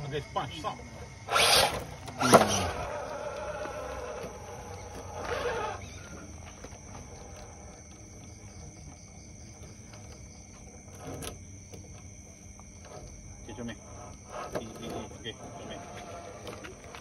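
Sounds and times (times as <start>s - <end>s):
rc car motor and gears: 0.0s - 17.0s.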